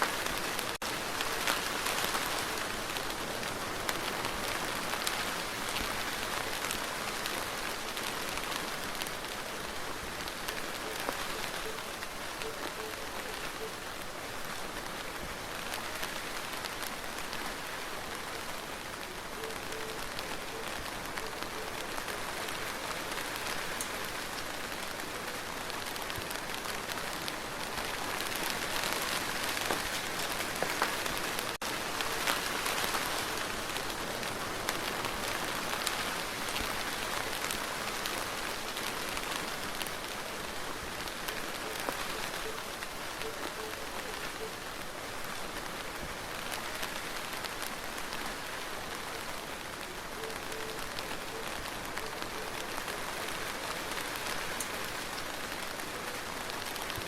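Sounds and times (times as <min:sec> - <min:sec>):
rain on a hard surface: 0:00.0 - 0:57.0.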